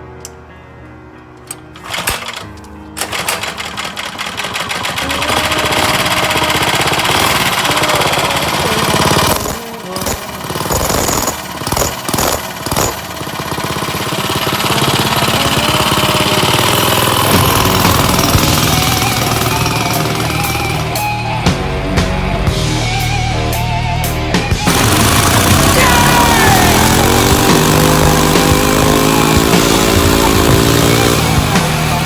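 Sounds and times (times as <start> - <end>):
small engine revving: 1.8 - 2.4, 3.0 - 21.2, 24.6 - 32.0.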